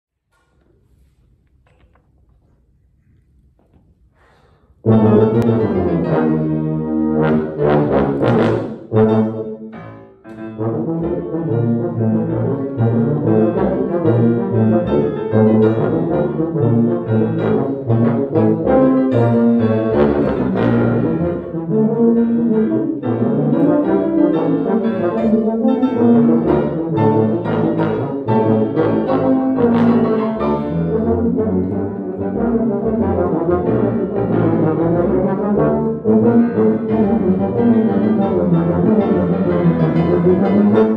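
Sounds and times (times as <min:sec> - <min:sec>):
piano accompaniment: 0:04.8 - 0:40.9
tubas playing: 0:04.8 - 0:40.9.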